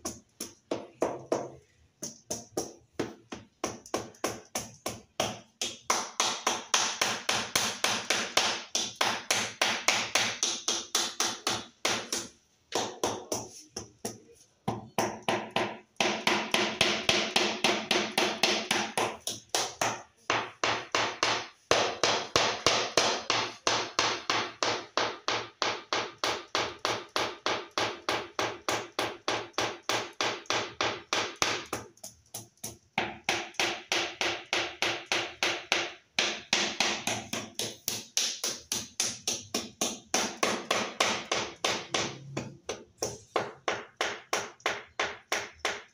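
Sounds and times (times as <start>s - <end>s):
rubber mallet tapping tile: 0.0s - 45.9s.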